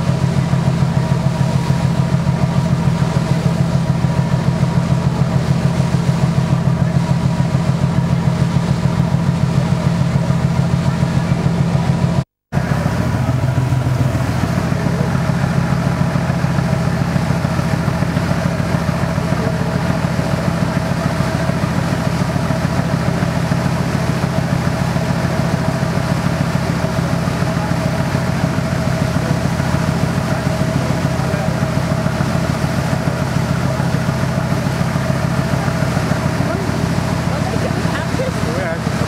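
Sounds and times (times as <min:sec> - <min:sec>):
diesel boat engine droning: 0:00.0 - 0:39.0.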